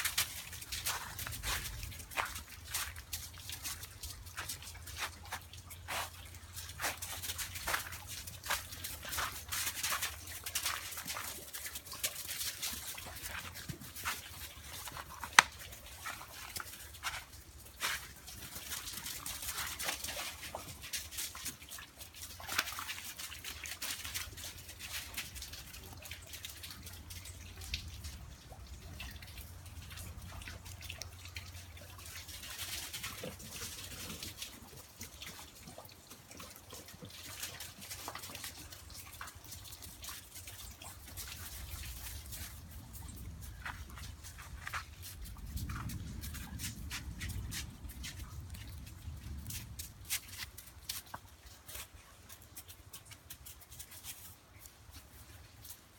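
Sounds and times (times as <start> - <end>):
dripping water: 0.0 - 55.9.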